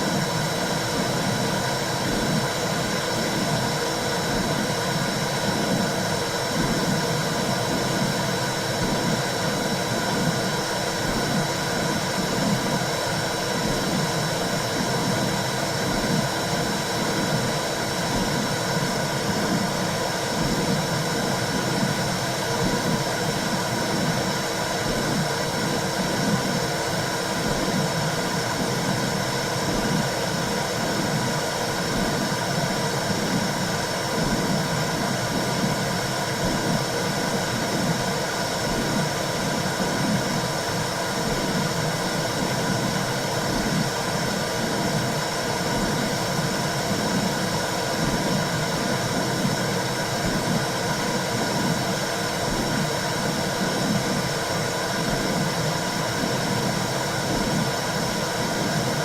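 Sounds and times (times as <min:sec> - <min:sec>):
low regular pulsing: 0:00.0 - 0:59.0.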